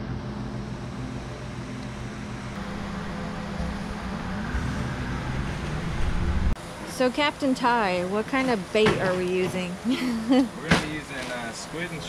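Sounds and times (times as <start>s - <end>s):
motorboat engine humming: 0.0s - 10.6s.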